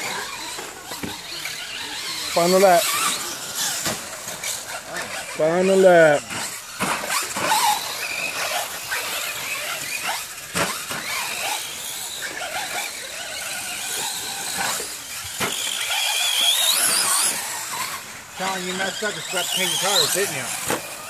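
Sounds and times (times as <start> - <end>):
rc truck motors whining: 0.0 - 21.0.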